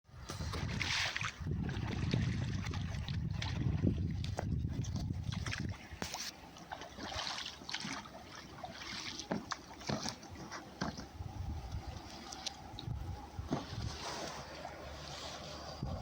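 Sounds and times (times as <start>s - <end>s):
water lapping against boat hull: 0.1s - 16.0s
water trickling: 0.6s - 16.0s.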